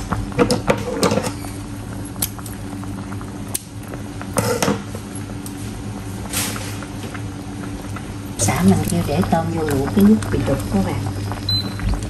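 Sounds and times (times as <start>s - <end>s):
steady low hum: 0.0s - 12.0s
water boiling in a pot: 0.0s - 12.0s.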